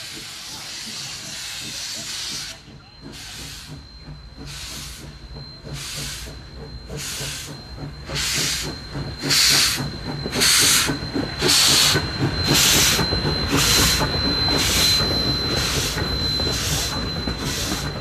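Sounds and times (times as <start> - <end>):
rolling carriages rumbling: 0.0 - 18.0
steam locomotive chuffing: 0.0 - 18.0.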